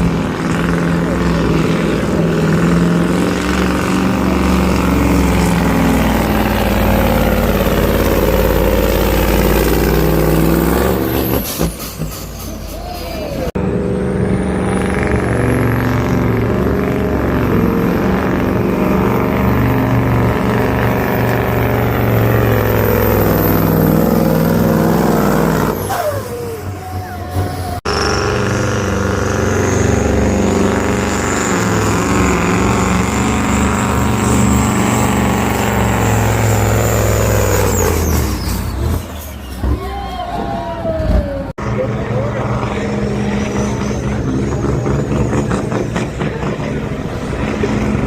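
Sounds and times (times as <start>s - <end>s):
diesel engine running under load: 0.0s - 40.2s, 41.0s - 48.0s.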